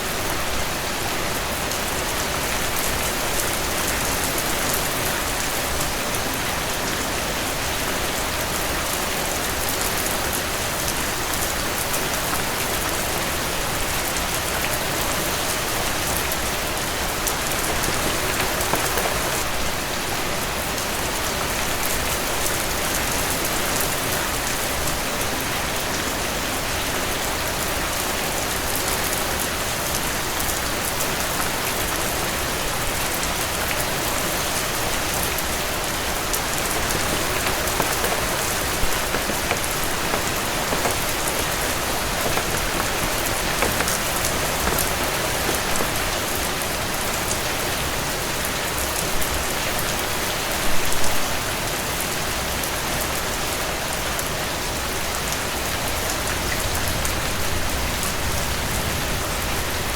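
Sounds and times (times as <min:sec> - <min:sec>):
heavy rain pattering on porch: 0:00.1 - 0:51.4.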